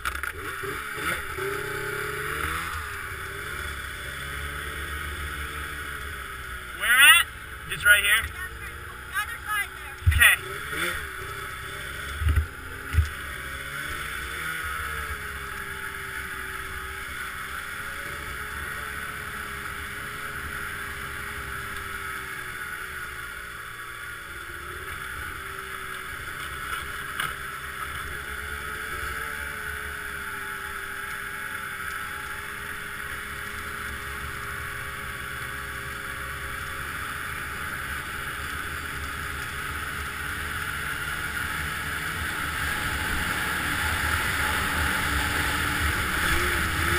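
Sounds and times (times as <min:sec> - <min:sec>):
rushing noise over snow: 0:00.0 - 0:46.9
snowmobile engine running: 0:00.0 - 0:46.9.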